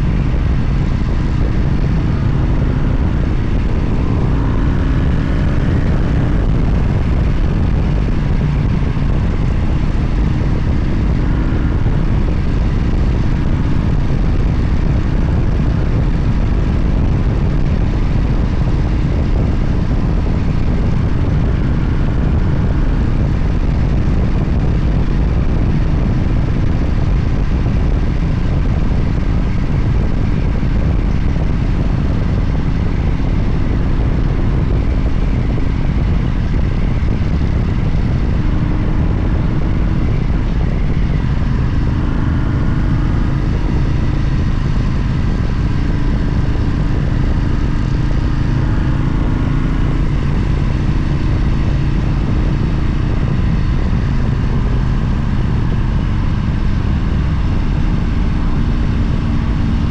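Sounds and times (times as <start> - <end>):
motorcycle engine cruising: 0.0 - 59.9
wind on microphone: 0.0 - 59.9.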